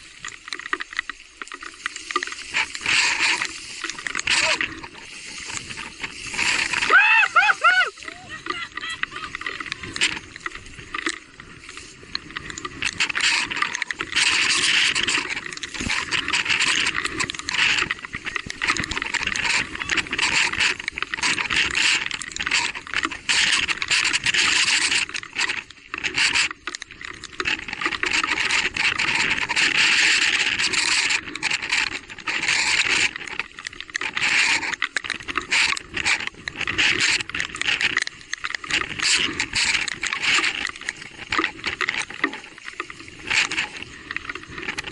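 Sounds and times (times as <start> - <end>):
bike tyres on muddy trail: 0.0 - 44.9.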